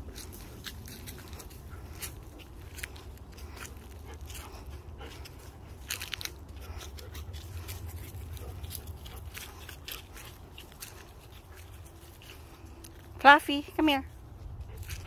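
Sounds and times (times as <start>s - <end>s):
footsteps crunching dry leaves: 0.0s - 13.2s, 14.1s - 15.0s
steady low rumble: 0.0s - 15.0s.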